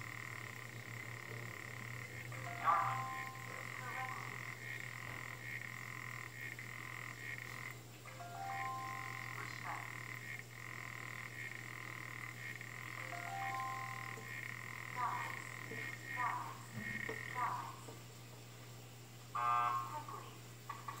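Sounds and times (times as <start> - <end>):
frog trilling underwater: 0.1 - 17.8, 19.4 - 20.1.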